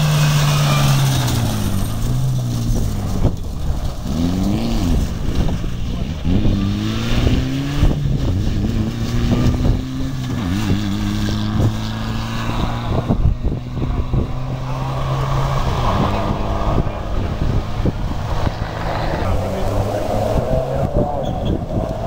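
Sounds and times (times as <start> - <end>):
rally car engine revving: 0.0 - 22.0
wind buffeting microphone: 1.0 - 22.0.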